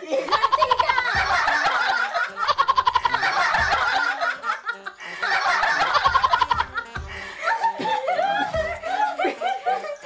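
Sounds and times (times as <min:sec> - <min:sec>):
young people laughing: 0:00.0 - 0:10.0.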